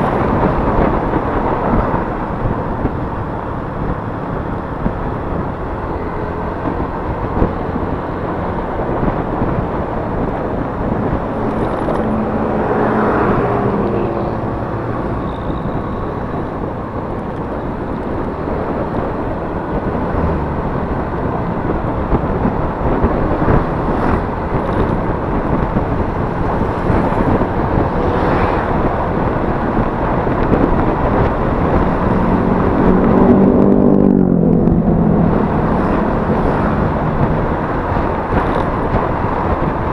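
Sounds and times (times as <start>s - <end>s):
scooter engine running: 0.0s - 39.9s
wind noise on microphone: 0.0s - 39.9s.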